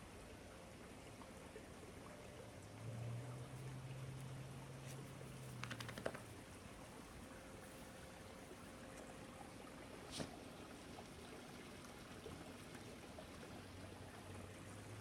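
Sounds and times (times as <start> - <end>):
faint low hum: 0.0 - 15.0
faint outdoor hiss: 0.0 - 15.0.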